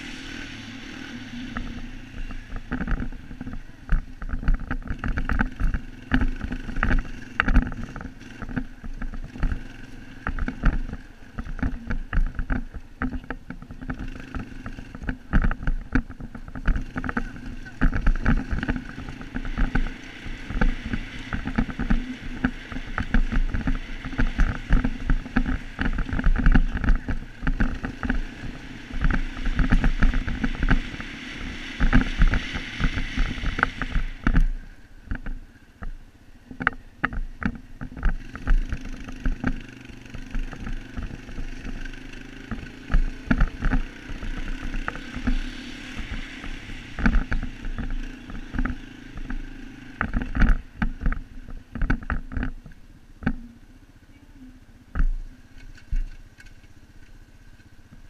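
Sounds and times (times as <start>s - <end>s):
off-road vehicle engine: 0.0s - 58.0s
wind: 0.0s - 58.0s
knocks and rattles: 1.5s - 53.5s.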